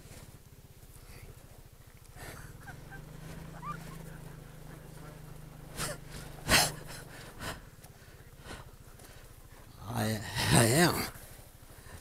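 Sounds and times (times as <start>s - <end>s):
scooter engine humming: 0.0s - 12.0s.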